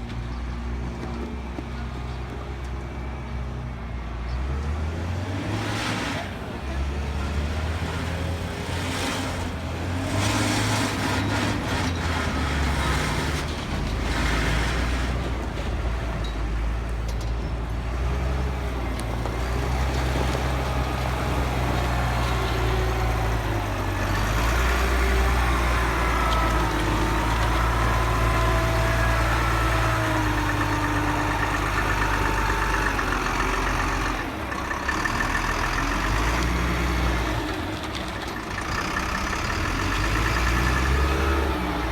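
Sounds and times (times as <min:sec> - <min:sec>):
heavy truck engine running: 0:00.0 - 0:41.9.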